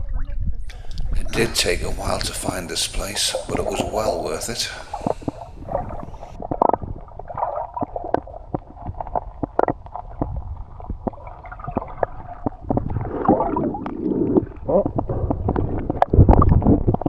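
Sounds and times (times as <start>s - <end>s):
sea water sloshing and gurgling: 0.0s - 17.0s.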